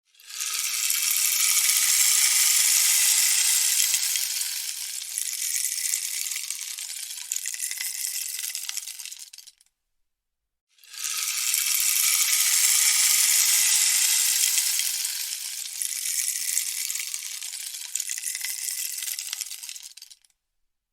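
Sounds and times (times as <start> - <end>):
rainstick beads trickling: 0.2 - 9.6, 10.8 - 20.3.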